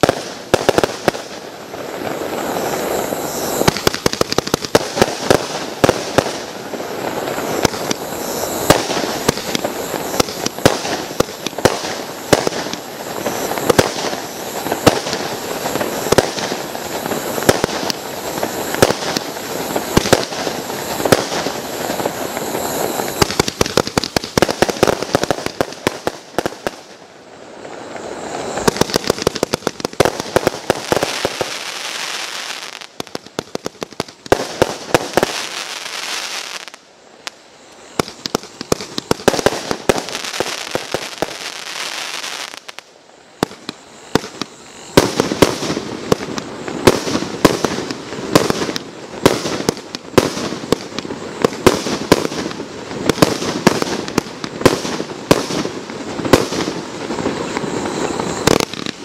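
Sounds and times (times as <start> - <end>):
fireworks launching and bursting: 0.0 - 59.0.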